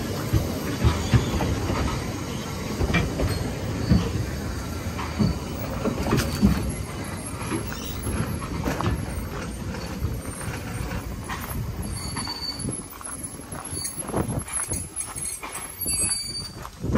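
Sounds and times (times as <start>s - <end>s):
train coaches rumbling: 0.0s - 16.9s
wheels clicking over rail joints: 0.0s - 16.9s
high wheel squeal: 2.2s - 16.8s.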